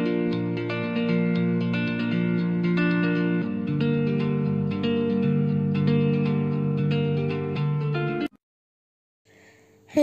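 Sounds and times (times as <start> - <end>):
plucked guitar music: 0.0 - 8.3.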